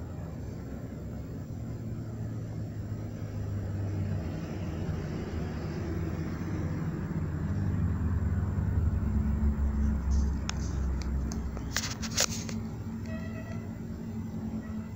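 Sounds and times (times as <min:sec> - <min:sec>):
stove burning with low rumble: 0:00.0 - 0:14.9.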